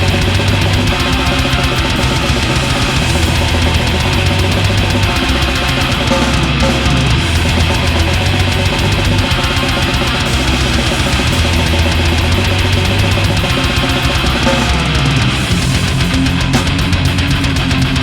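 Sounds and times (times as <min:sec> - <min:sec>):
distorted electric guitars: 0:00.0 - 0:18.0
fast dense drumming: 0:00.0 - 0:18.0
metal band instrumental: 0:00.0 - 0:18.0.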